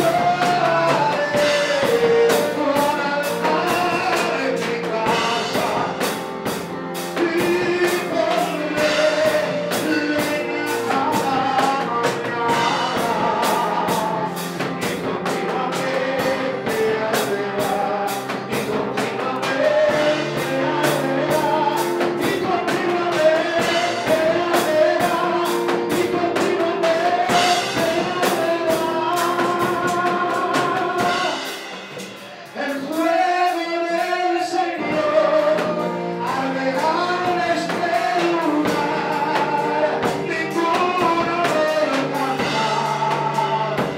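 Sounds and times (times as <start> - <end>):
man singing into a microphone: 0.0 - 31.6, 32.2 - 43.9
instrumental backing with drum beat: 0.0 - 43.9.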